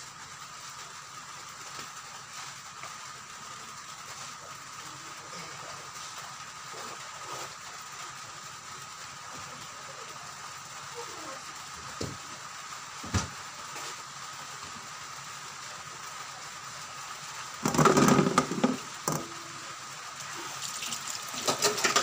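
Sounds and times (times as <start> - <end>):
background hiss: 0.0 - 22.0.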